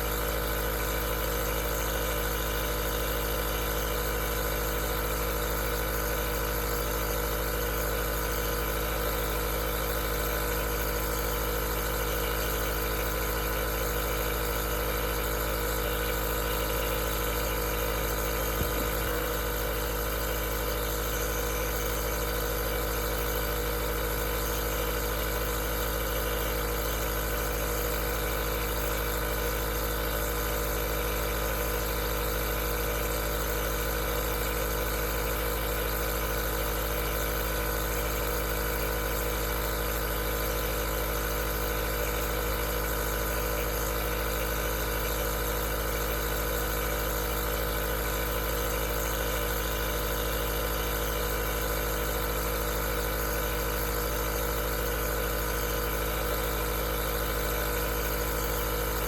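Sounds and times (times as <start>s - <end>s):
nebulizer compressor humming: 0.0s - 59.0s.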